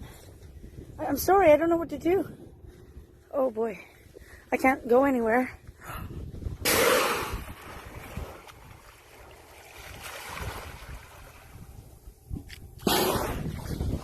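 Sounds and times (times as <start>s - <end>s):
water and waves: 0.0s - 14.0s
wind buffeting microphone: 0.0s - 14.0s.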